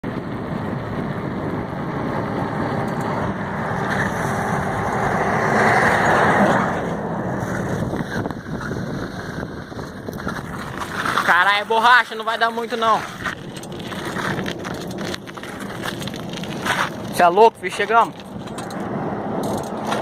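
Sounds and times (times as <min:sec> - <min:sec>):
road vehicle passing by: 0:00.1 - 0:11.8, 0:12.8 - 0:20.0.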